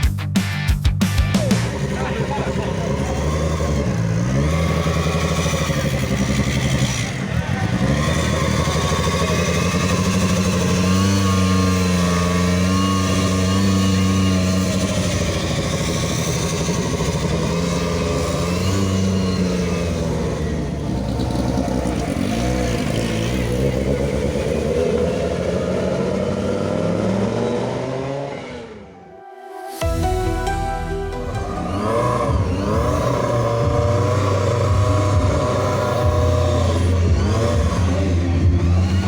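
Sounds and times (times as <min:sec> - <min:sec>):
car engine revving: 0:01.1 - 0:29.2, 0:31.1 - 0:39.0.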